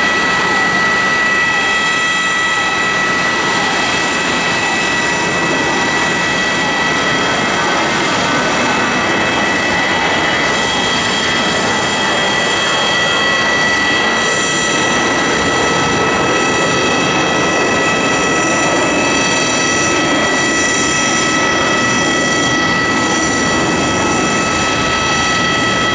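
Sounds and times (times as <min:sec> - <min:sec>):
high engine whine: 0:00.0 - 0:25.9
jet engines roaring: 0:00.0 - 0:25.9.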